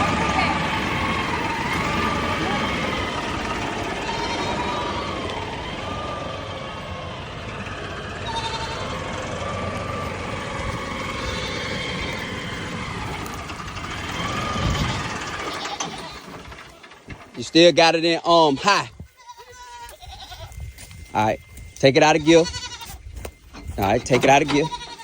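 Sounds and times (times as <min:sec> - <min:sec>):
tractor engine running: 0:00.0 - 0:25.0
goats bleating: 0:00.1 - 0:05.6, 0:08.2 - 0:20.7, 0:21.9 - 0:23.0, 0:23.6 - 0:25.0.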